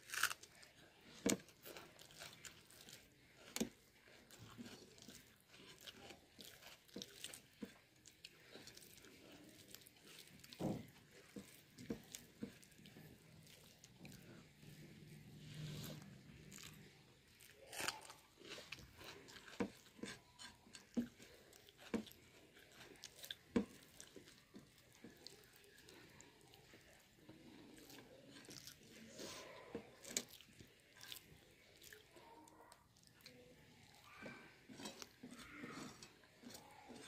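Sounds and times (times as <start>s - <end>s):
fingers squishing rice: 0.0s - 37.0s
person chewing food: 0.0s - 37.0s.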